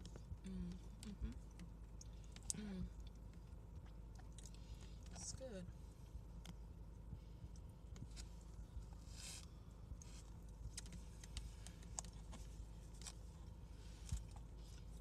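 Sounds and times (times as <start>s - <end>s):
low steady hum: 0.0s - 15.0s
soft chewing and mouth clicks: 0.0s - 15.0s.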